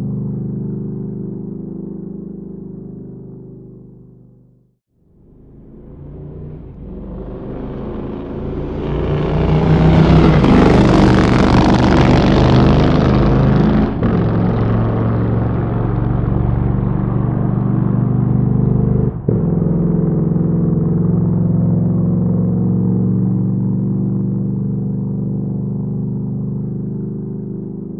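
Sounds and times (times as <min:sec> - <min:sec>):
motorcycle engine: 0:00.0 - 0:27.9.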